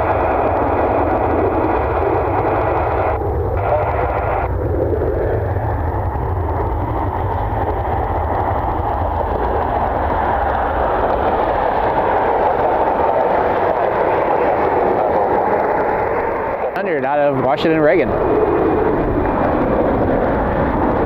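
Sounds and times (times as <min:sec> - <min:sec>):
jet engines roaring: 0:00.0 - 0:21.0
wind rumble on microphone: 0:00.0 - 0:21.0.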